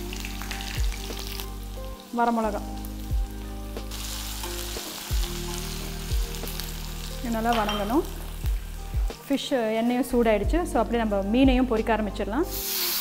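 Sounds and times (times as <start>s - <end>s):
shallots sizzling in hot oil: 0.0s - 13.0s.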